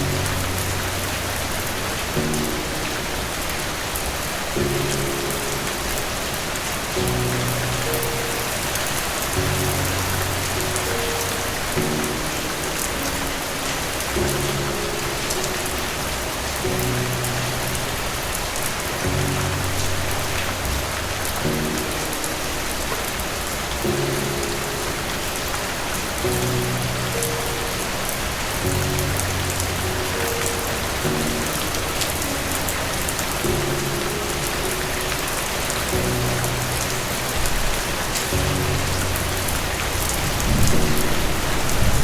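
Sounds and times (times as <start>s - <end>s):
soft low music chords: 0.0s - 42.0s
steady rain: 0.0s - 42.0s.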